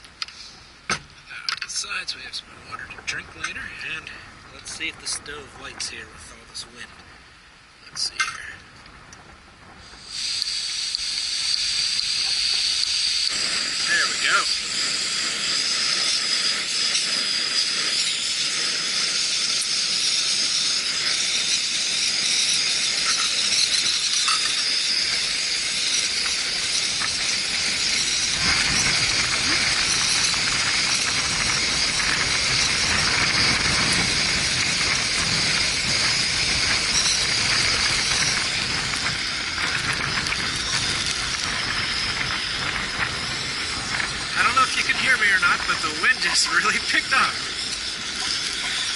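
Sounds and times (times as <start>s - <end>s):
stove burner hissing: 0.0s - 48.9s
wind rumble on microphone: 1.8s - 48.9s.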